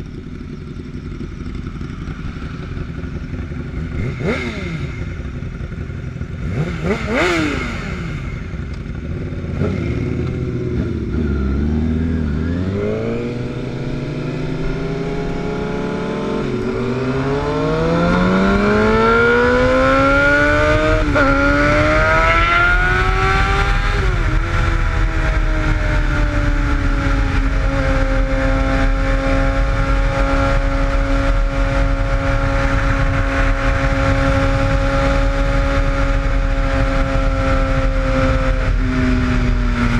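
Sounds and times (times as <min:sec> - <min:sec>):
motorcycle engine accelerating: 0:00.0 - 0:39.9
wind noise on microphone: 0:02.7 - 0:39.9.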